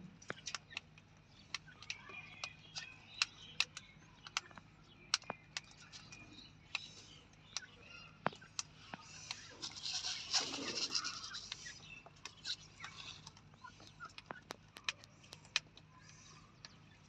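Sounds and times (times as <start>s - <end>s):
bird chirps: 0.0s - 17.0s
birds chattering: 0.0s - 17.0s
sharp clicks: 0.2s - 16.9s.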